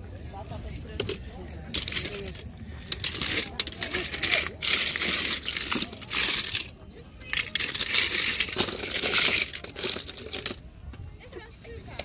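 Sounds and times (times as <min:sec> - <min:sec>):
toy cars clattering and scraping: 0:00.9 - 0:10.6.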